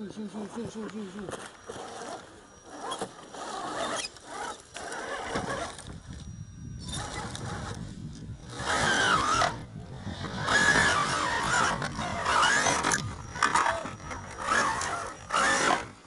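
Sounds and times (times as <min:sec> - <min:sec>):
rc car motor whining: 0:01.4 - 0:16.0.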